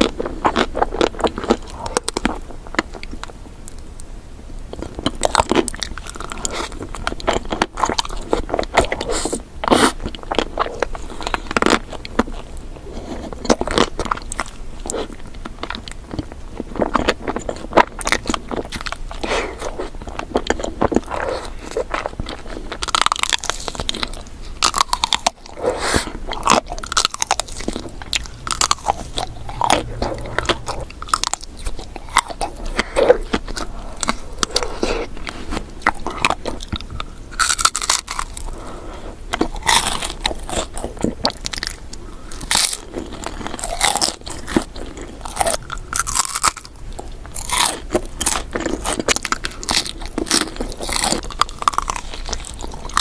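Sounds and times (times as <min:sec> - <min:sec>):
bites and crunches: 0:00.0 - 0:03.8, 0:04.7 - 0:53.0
wet chewing: 0:00.0 - 0:03.8, 0:04.7 - 0:53.0.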